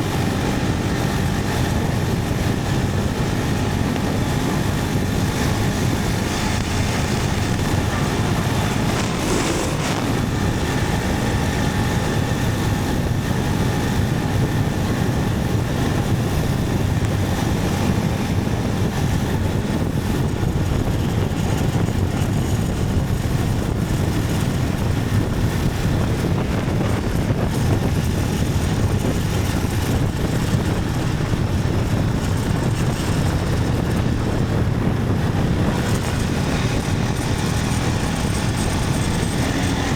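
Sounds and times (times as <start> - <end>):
motorcycle engine running: 0.0 - 39.9
wind rush and road noise: 0.0 - 39.9.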